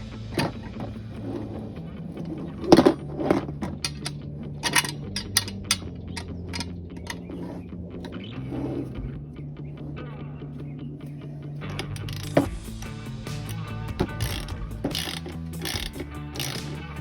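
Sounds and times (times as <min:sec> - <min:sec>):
background music: 0:00.0 - 0:17.0
metal parts clinking: 0:00.3 - 0:09.0, 0:11.0 - 0:17.0.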